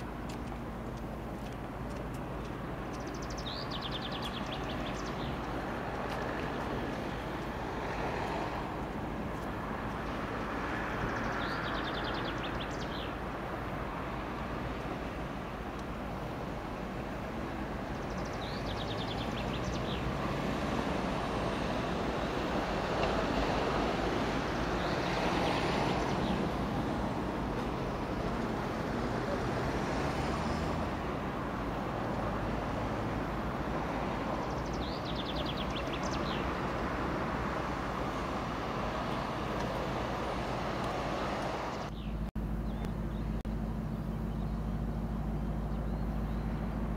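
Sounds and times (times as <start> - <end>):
diesel locomotive rumble: 0.0 - 46.9.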